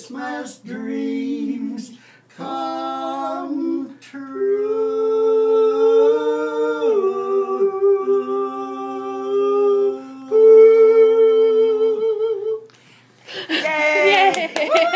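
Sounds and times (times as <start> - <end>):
two voices singing in harmony: 0.0 - 12.7.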